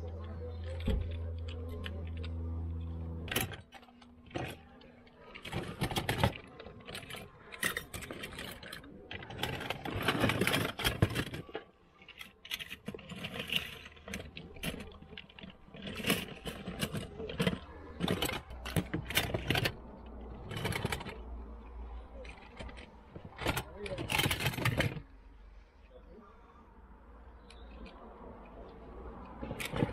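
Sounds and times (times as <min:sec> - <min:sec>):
toy cars clinking and clattering: 0:00.0 - 0:26.2, 0:27.2 - 0:29.9.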